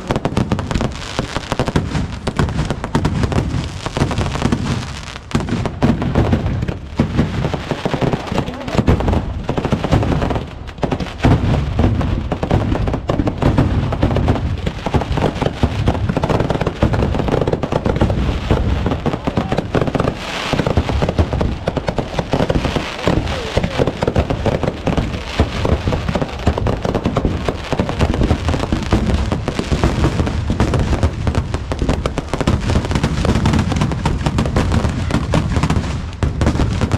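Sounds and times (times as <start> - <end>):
firecrackers bangs and crackles: 0.0 - 36.9.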